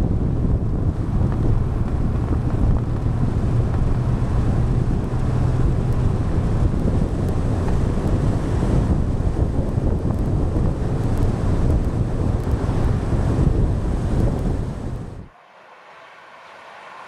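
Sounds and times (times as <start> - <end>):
wind buffeting microphone: 0.0 - 15.3
scooter engine hum: 0.0 - 17.0.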